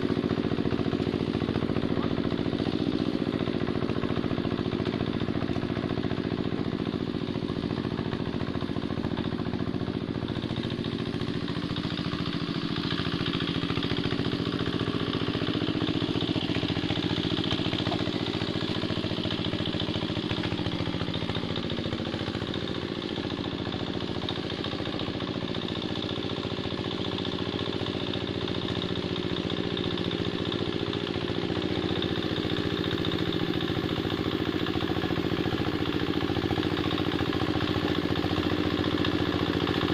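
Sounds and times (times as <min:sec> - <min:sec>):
hand tractor diesel engine: 0:00.0 - 0:39.9.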